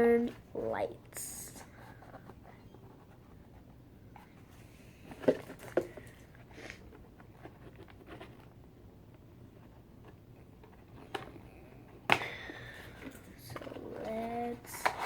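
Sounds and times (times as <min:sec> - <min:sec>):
faint rustling: 0:01.4 - 0:15.0.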